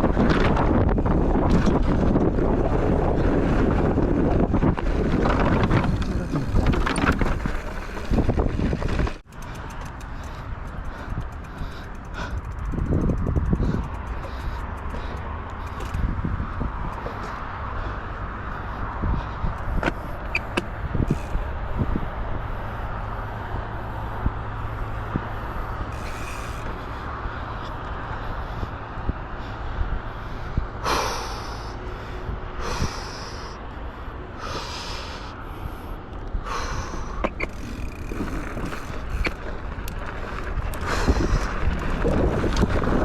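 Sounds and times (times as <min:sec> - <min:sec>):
low rumble of mountain bike: 0:00.0 - 0:43.0
wind buffeting microphone: 0:00.0 - 0:43.0.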